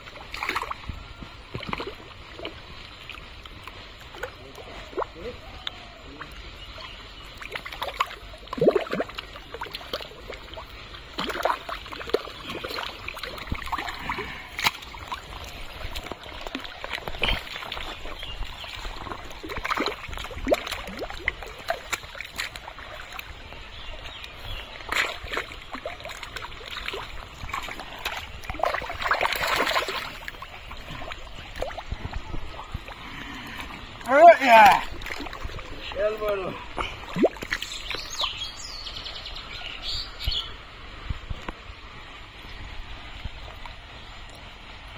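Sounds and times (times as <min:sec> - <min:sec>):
muddy water sloshing and splashing: 0:00.0 - 0:39.2.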